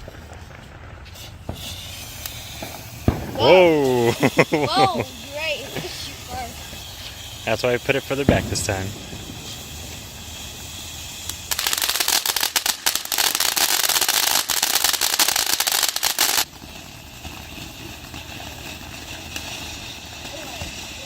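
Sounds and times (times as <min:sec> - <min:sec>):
firework crackling and popping: 0:00.0 - 0:21.0.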